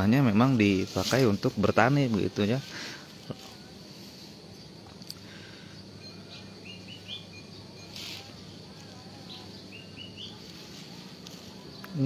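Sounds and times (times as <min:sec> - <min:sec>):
low steady hum: 0:00.0 - 0:12.0
bird singing: 0:01.8 - 0:12.0.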